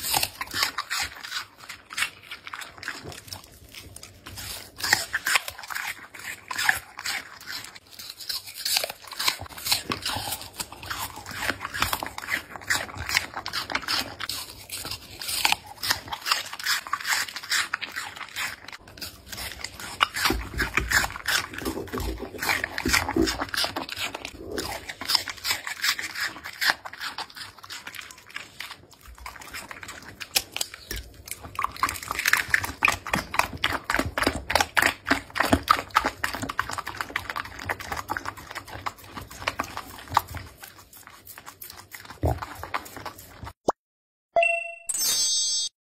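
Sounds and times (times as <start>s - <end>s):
dog chewing and crunching food: 0.0s - 43.6s.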